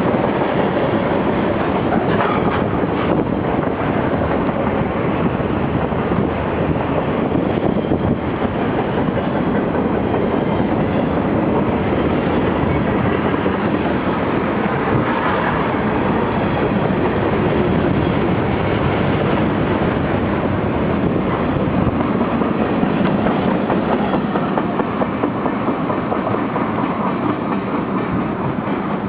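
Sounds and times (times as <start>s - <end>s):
freight train wheels clattering on rails: 0.0s - 29.0s.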